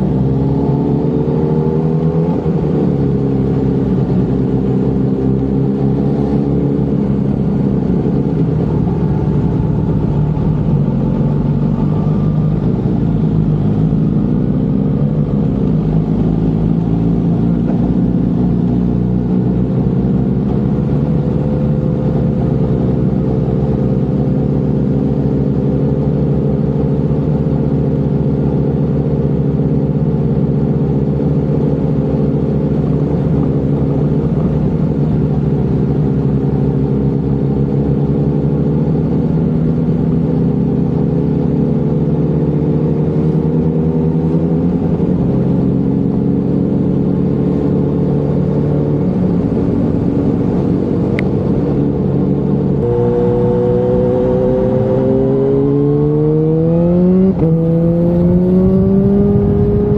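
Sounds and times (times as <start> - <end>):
motorcycle engine: 0.0 - 59.9.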